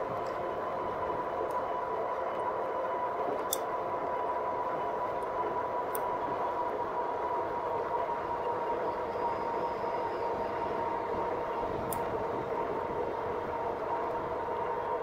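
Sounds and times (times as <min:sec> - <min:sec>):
electric bike whine and hum: 0:00.0 - 0:15.0.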